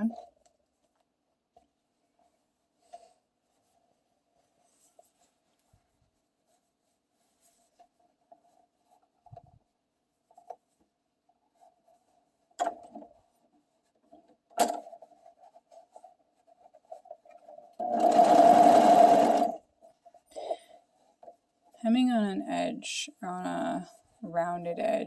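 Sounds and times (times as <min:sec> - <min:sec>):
faint rustles and clicks: 0:00.0 - 0:17.8, 0:19.6 - 0:22.1.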